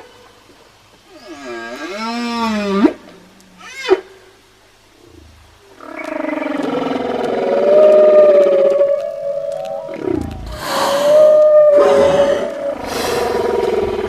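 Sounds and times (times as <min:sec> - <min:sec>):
whale song: 0:01.1 - 0:04.4, 0:05.0 - 0:14.0.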